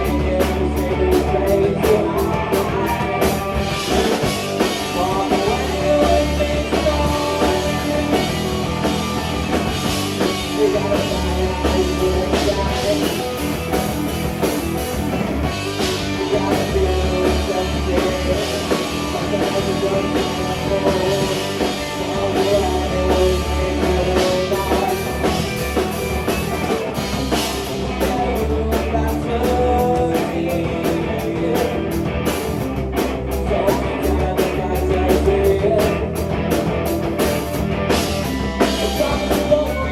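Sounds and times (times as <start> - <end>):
person singing: 0.0 - 9.2, 10.1 - 13.7, 15.7 - 32.1, 33.4 - 36.3, 38.4 - 39.9
drum kit: 0.0 - 39.9
electric guitar: 0.0 - 39.9
held bass notes: 0.0 - 39.9.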